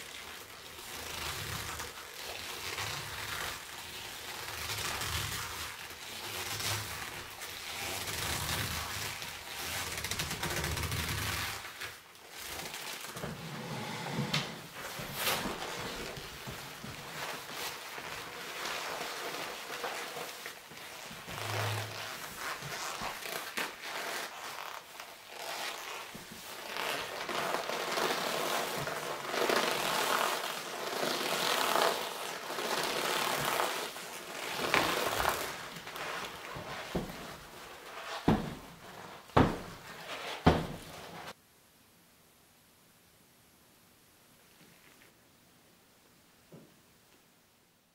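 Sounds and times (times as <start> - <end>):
leather creaking and rubbing: 0.0 - 41.4.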